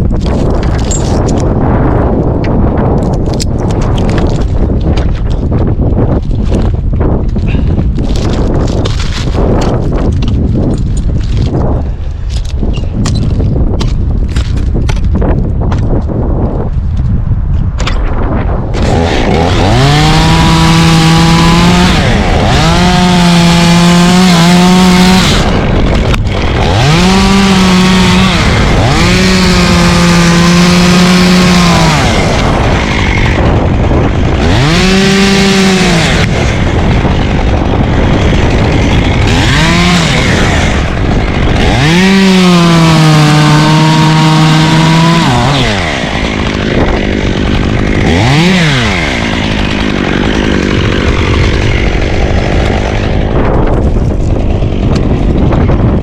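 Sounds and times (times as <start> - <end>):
chainsaw revving and idling: 0.2 - 12.6, 18.6 - 56.0.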